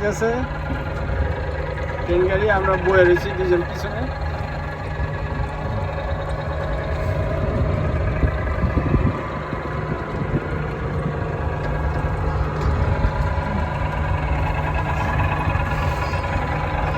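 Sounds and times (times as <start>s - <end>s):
ride-on train engine rumbling: 0.0s - 16.9s.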